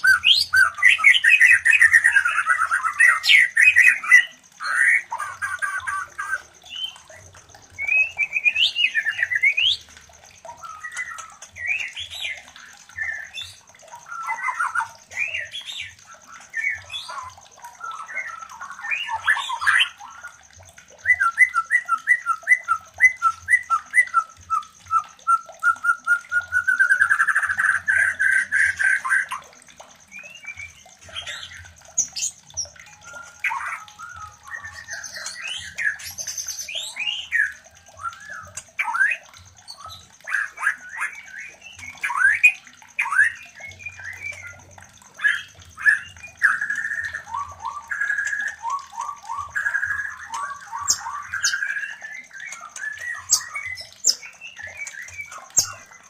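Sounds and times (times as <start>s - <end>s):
bird singing whistled phrases: 0.0s - 56.0s.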